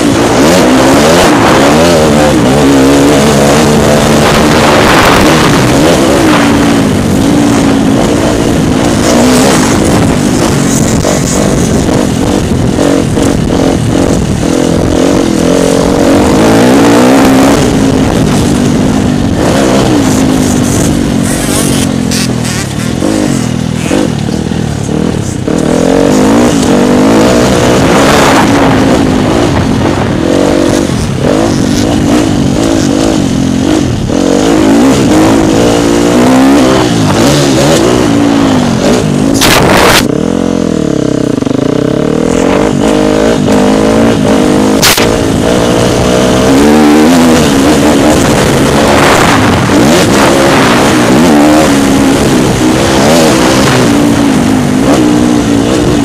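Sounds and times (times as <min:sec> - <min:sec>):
dirt bike engine revving: 0:00.0 - 0:56.0
noisy rush: 0:00.0 - 0:56.0.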